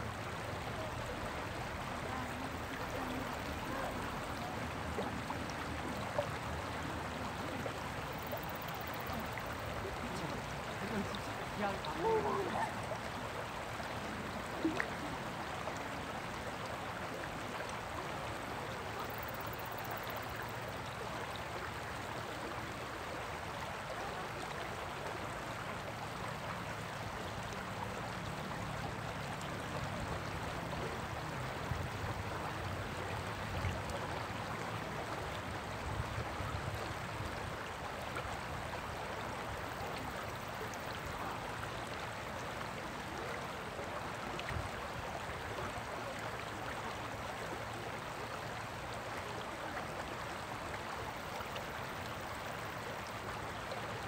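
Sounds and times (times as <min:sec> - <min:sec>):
stream rippling over rocks: 0:00.0 - 0:54.0.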